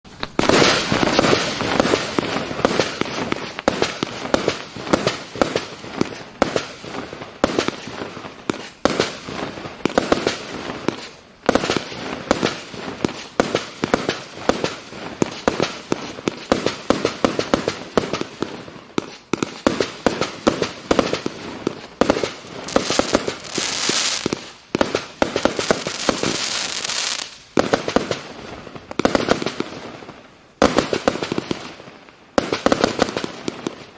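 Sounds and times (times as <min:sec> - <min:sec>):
bright hissing crackle: 0:00.1 - 0:33.9
fireworks bangs and crackles: 0:00.1 - 0:33.9.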